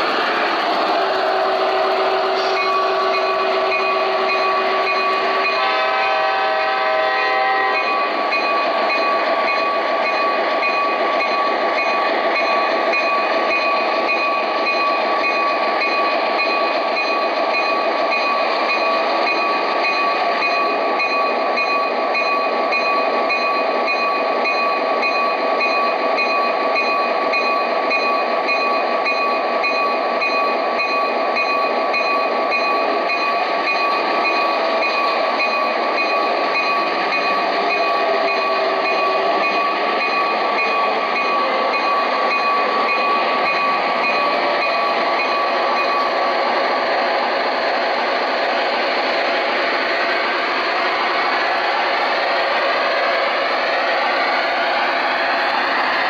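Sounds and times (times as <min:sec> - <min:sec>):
model diesel locomotive sound: 0:00.0 - 0:56.0.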